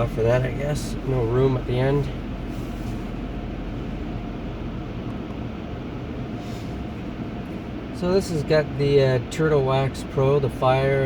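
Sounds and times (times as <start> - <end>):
car wash rumble and hiss: 0.0 - 11.0
faint steady hum: 0.0 - 11.0.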